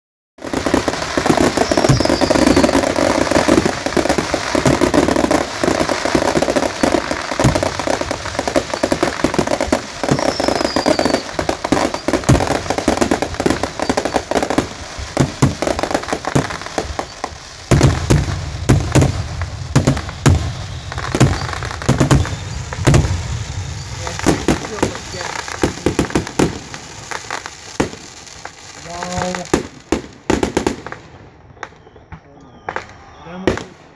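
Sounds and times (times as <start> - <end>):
firework shells booming: 0.4 - 33.9
fireworks crackling and popping: 0.4 - 33.9
sharp cracks: 0.6 - 33.9.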